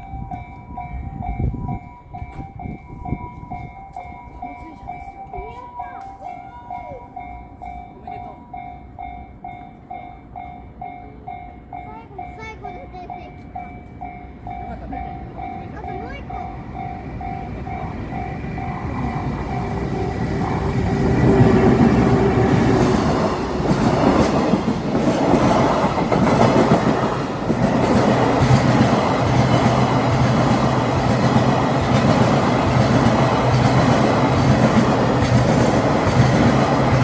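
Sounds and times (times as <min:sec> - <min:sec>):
freight train rumbling: 0:00.0 - 0:37.0.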